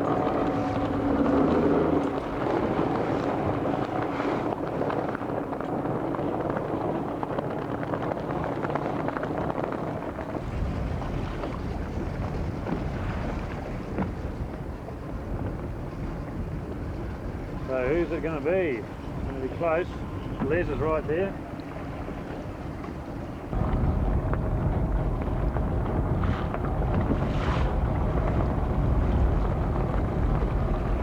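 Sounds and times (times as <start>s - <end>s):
boat engine running: 0.0s - 31.0s
water noise: 0.0s - 31.0s
wind buffeting microphone: 0.0s - 31.0s.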